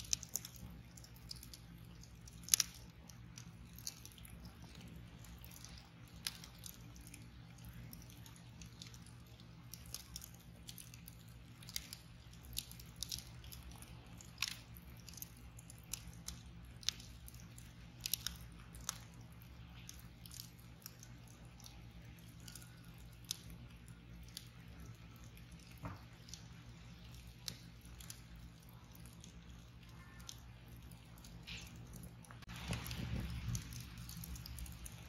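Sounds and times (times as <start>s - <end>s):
low steady hum: 0.0s - 35.0s
wood fire crackling: 0.0s - 35.0s.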